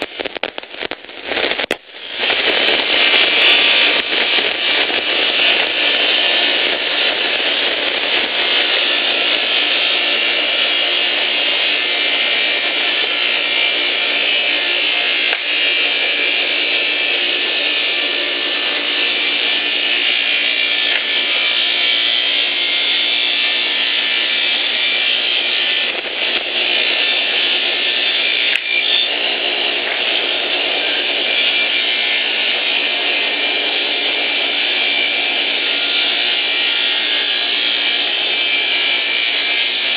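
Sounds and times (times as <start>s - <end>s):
sawing machine cutting wood: 1.4s - 39.9s.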